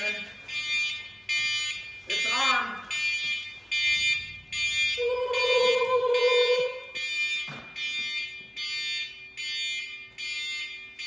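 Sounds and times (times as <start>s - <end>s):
electronic beeper beeping: 0.0s - 10.7s.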